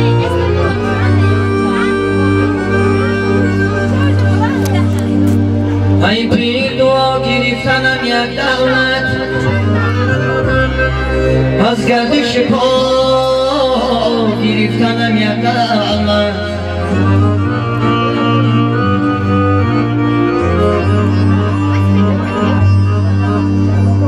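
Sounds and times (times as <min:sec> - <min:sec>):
electronic keyboard melody: 0:00.0 - 0:24.0
held bass notes: 0:00.0 - 0:24.0.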